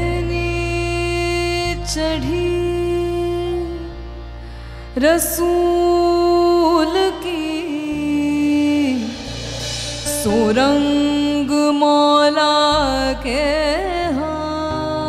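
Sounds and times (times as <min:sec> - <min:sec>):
low sustained accompaniment: 0:00.0 - 0:15.0
woman singing devotional song: 0:00.0 - 0:15.0.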